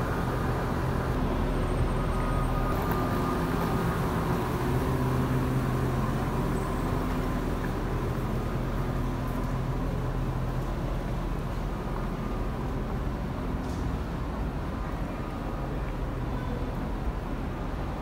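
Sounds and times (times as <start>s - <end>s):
bus engines idling: 0.0s - 18.0s
road traffic hum: 0.0s - 18.0s.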